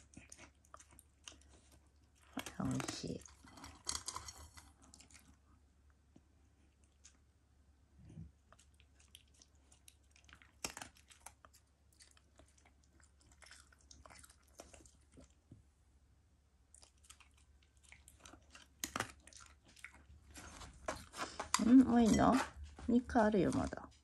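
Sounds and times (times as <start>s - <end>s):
dog chewing food: 0.0s - 5.4s, 8.4s - 15.5s, 16.7s - 23.8s.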